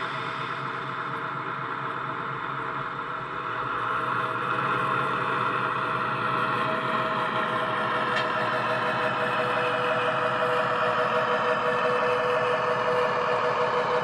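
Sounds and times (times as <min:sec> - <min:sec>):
diesel locomotive engine: 0:00.0 - 0:14.0.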